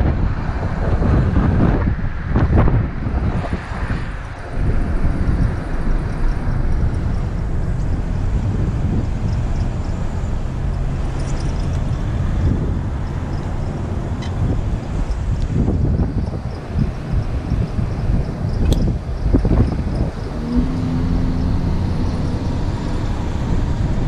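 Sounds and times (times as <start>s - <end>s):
low road rumble: 0.0s - 24.0s
wind buffeting on microphone: 0.0s - 24.0s.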